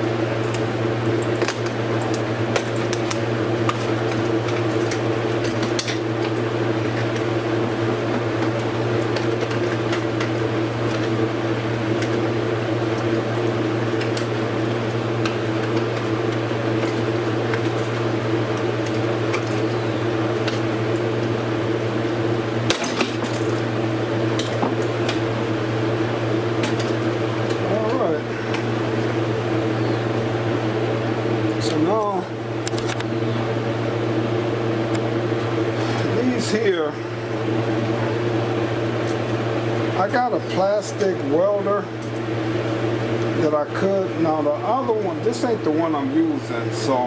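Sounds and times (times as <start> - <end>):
electric motor hum: 0.0 - 47.0.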